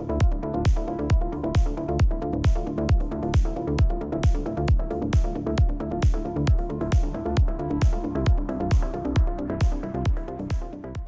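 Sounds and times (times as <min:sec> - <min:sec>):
kick drum: 0:00.0 - 0:11.0.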